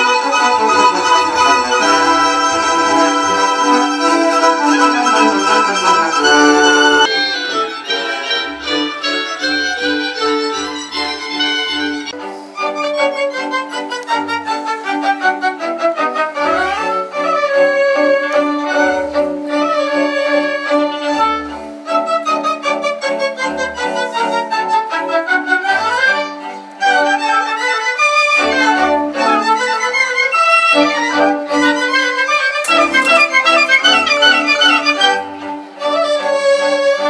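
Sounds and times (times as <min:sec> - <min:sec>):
strings playing: 0:00.0 - 0:37.0
violin melody: 0:00.0 - 0:37.0.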